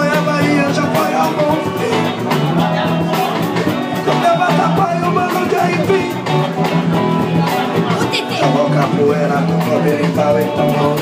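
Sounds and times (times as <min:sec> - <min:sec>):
drums on a steady beat: 0:00.0 - 0:11.0
guitar: 0:00.0 - 0:11.0.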